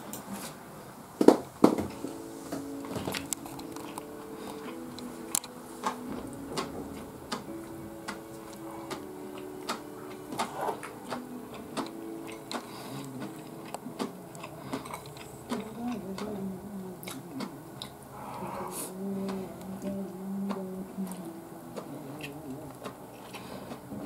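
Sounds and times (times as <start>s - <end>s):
low tones shifting in pitch: 1.9s - 24.0s
person chewing: 2.6s - 24.0s.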